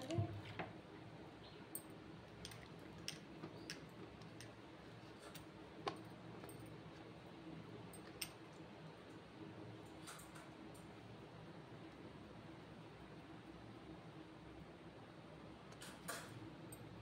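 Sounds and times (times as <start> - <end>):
low steady background hum: 0.0 - 17.0.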